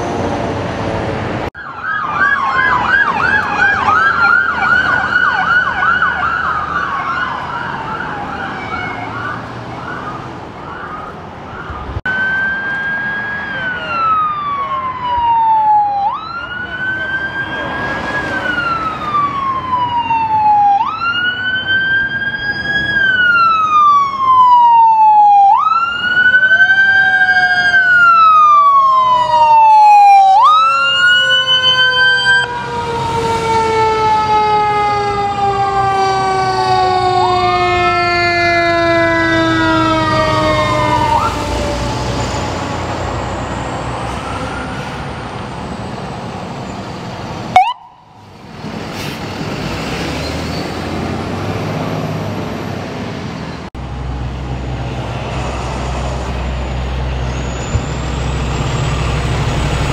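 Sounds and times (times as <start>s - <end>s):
siren long falling tone: 1.4s - 48.6s, 53.8s - 59.9s
fire truck siren wailing: 1.4s - 59.9s.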